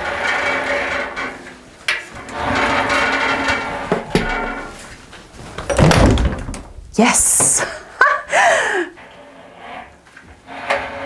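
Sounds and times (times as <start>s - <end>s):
wooden shelving scraping: 0.0s - 8.0s, 9.0s - 11.0s.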